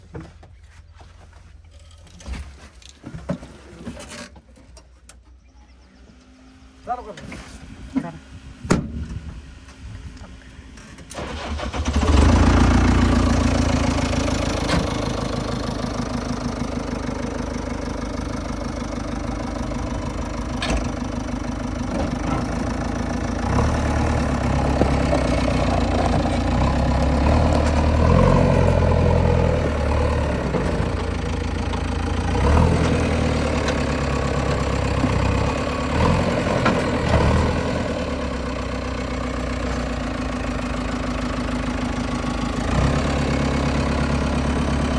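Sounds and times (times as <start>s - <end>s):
diesel engine rumbling and revving: 5.1s - 44.9s.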